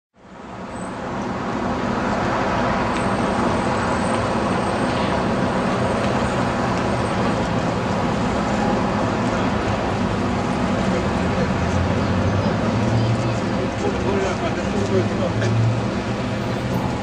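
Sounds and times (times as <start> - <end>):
city street traffic: 0.1 - 17.0.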